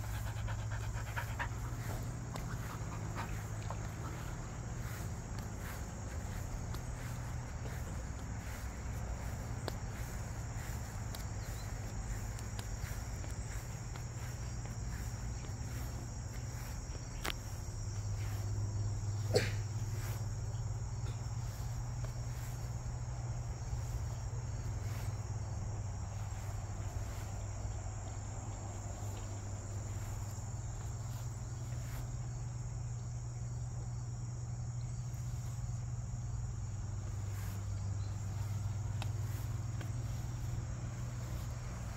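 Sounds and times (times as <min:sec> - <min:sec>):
crickets chirping: 0:00.0 - 0:41.9
low steady hum: 0:00.0 - 0:41.9.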